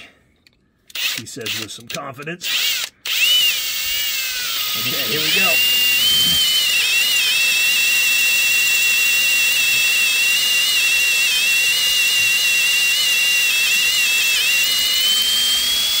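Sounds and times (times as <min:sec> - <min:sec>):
cordless drill whining: 0:00.9 - 0:16.0.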